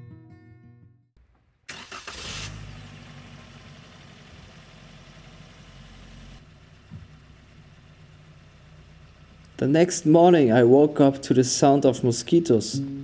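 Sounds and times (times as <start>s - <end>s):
car engine idling: 1.2s - 13.0s.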